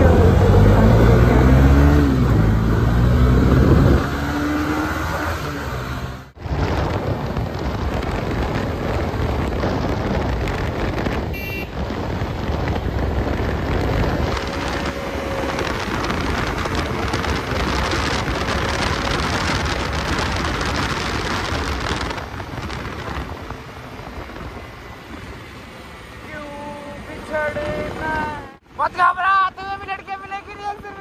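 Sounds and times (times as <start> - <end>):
wind rushing over microphone: 0.0 - 28.8
motorcycle road noise: 0.0 - 31.0.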